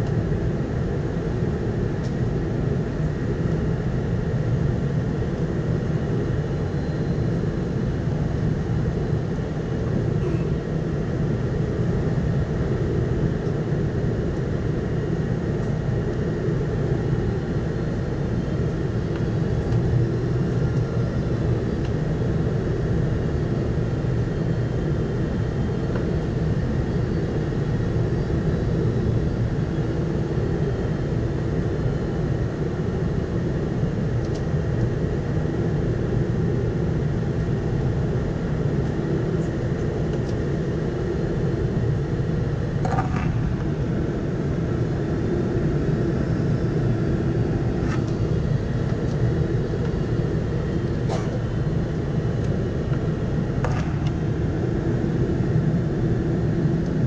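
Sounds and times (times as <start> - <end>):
airplane cabin engine roar: 0.0 - 57.0.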